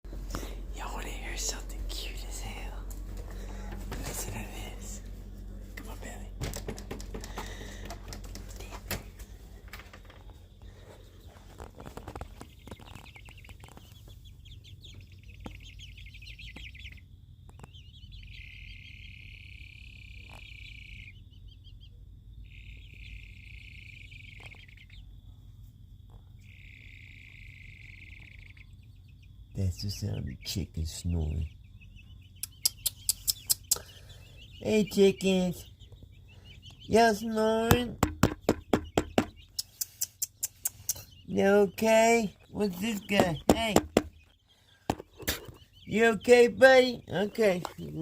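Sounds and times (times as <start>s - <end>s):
baby chicks trilling: 0.0s - 48.0s.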